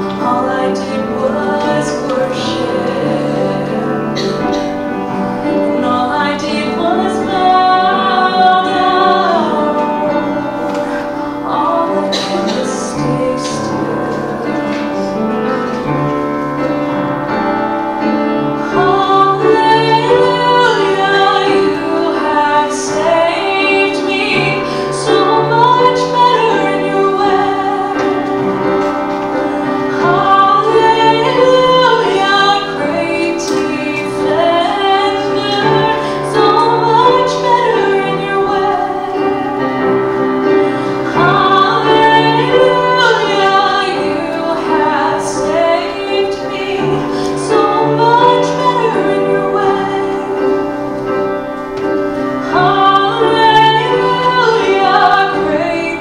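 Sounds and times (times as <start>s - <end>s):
woman singing: 0.0s - 16.1s, 18.0s - 56.0s
instrumental accompaniment: 0.0s - 56.0s.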